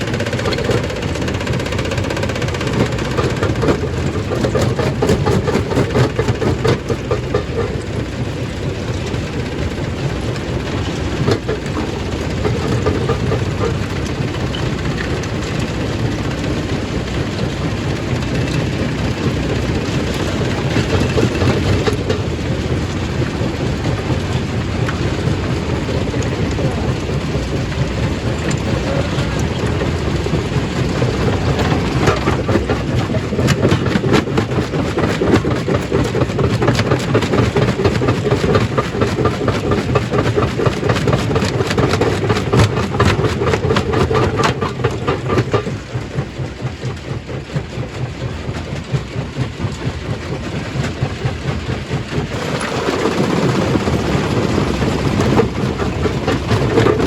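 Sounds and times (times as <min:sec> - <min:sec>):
stone crushing machine rumbling: 0:00.0 - 0:57.0.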